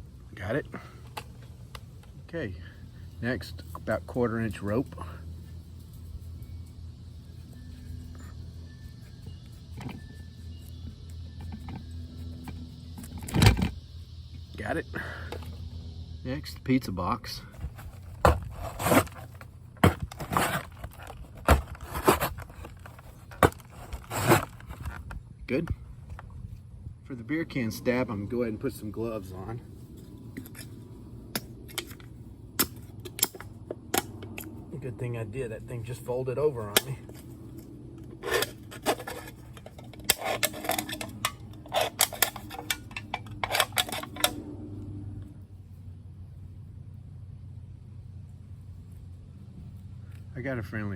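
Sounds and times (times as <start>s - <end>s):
low hum: 0.0s - 50.3s.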